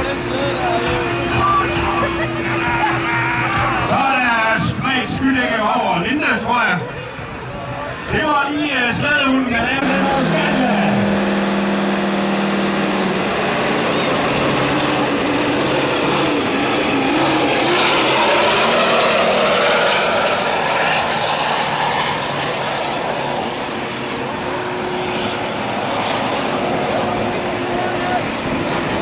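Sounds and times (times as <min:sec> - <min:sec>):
diesel truck engine at full load: 0:00.0 - 0:05.1, 0:09.7 - 0:29.0.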